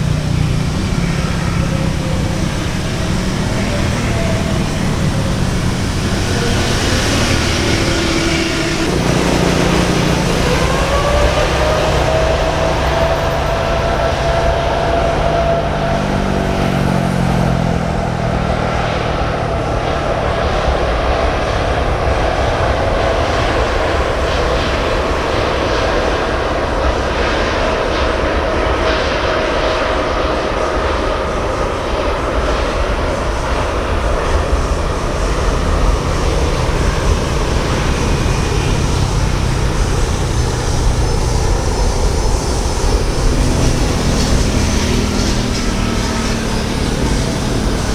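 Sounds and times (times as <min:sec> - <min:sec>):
jet engine whine: 0:00.0 - 0:47.9
jet engines rumbling: 0:00.0 - 0:47.9.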